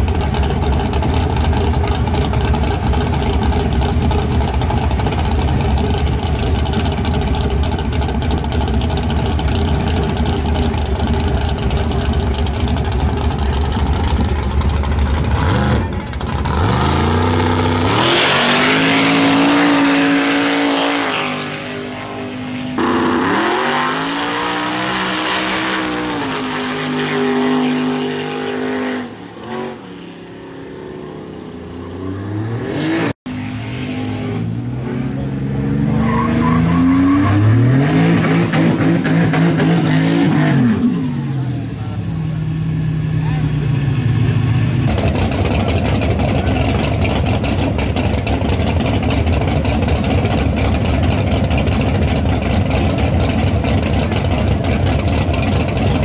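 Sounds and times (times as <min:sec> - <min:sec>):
drag car engine revving: 0:00.0 - 0:29.8, 0:30.6 - 0:56.0.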